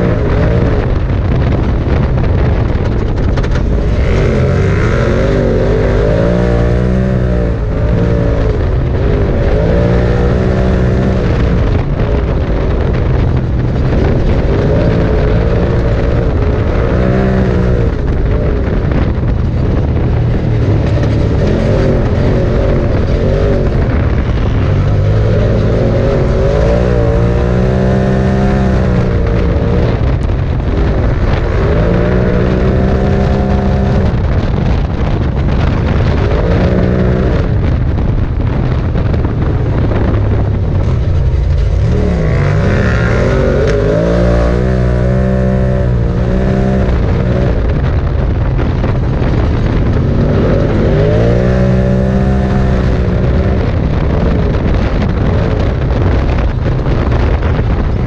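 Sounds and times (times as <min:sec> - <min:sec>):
engine revving: 0:00.0 - 0:58.0
rumble of the ride: 0:00.0 - 0:58.0.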